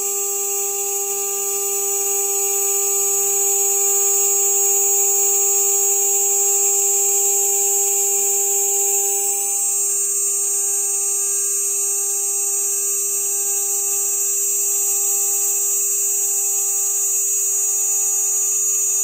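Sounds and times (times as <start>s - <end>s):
router spindle whine: 0.0s - 19.0s.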